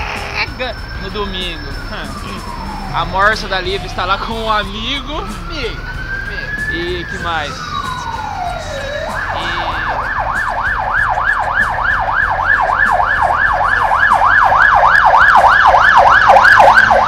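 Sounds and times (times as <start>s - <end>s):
police siren wail and yelp: 0.0s - 17.0s.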